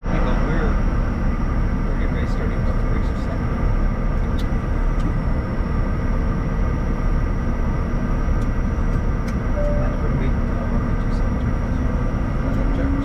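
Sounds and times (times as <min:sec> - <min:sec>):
high engine whine: 0:00.0 - 0:13.0
jet engines rumbling: 0:00.0 - 0:13.0.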